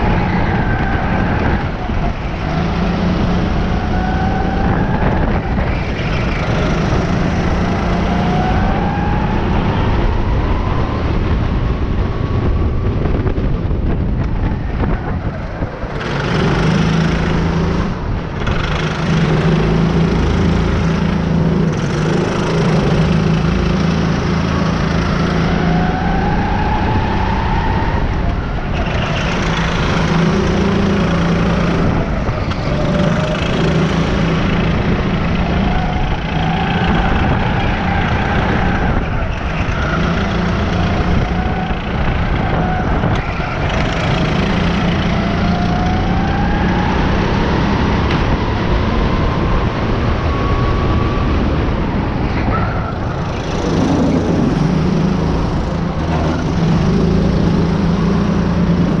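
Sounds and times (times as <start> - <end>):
go-kart engine revving: 0.0 - 13.4, 14.4 - 59.0.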